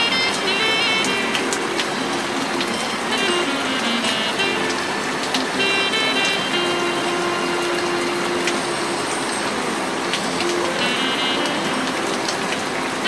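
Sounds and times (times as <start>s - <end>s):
faint background music: 0.0s - 13.0s
steady rain hiss: 0.0s - 13.0s.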